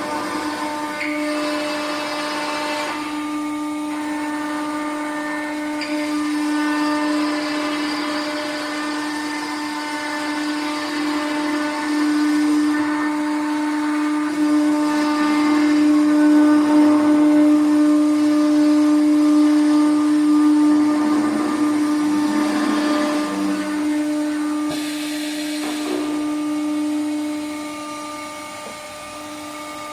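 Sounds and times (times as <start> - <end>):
router spindle whining: 0.0 - 29.9.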